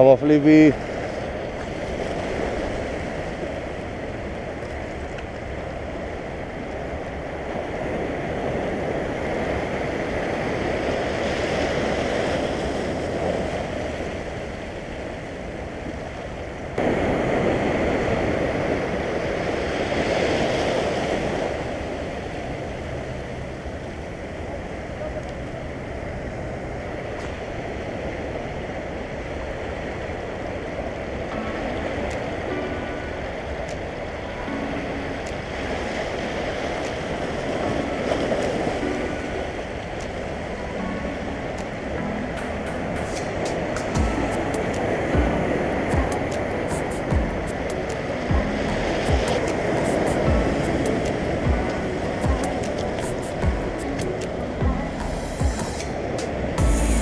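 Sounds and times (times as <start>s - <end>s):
sea surf over rocks: 0.0s - 57.0s.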